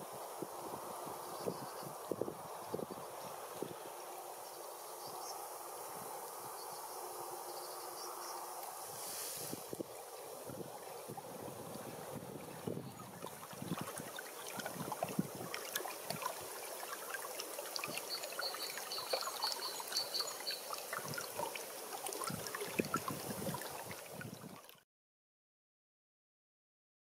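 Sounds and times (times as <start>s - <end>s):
river water trickling and gurgling: 0.0s - 24.8s.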